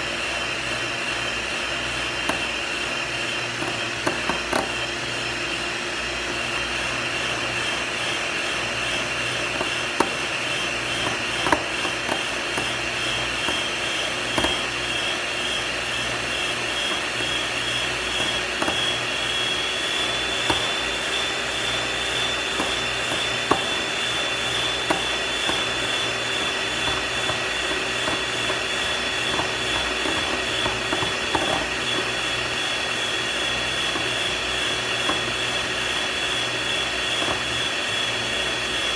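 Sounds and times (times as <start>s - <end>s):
electric milk frother whirring: 0.0s - 38.9s.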